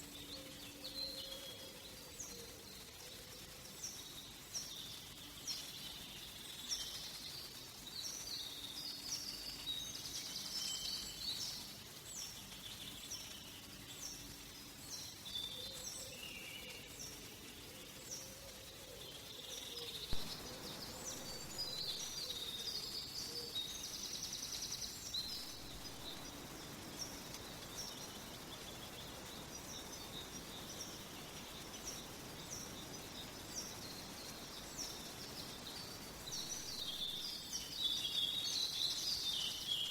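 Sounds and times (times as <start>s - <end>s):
small birds singing: 0.0s - 39.9s
soft steady hiss: 0.0s - 39.9s.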